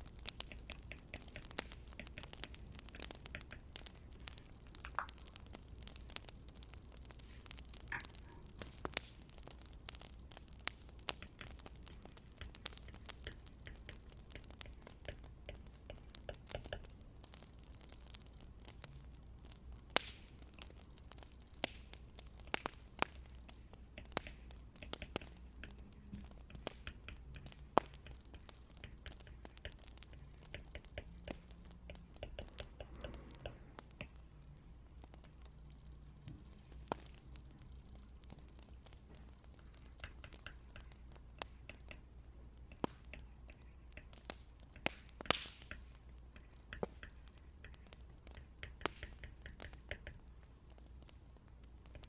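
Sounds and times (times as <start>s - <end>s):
firewood crackling in fireplace: 0.0s - 52.0s.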